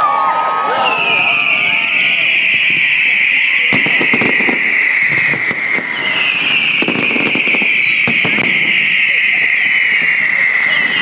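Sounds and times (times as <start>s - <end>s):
firework shrill whistle: 0.0s - 11.0s
firework bangs and pops: 0.3s - 11.0s.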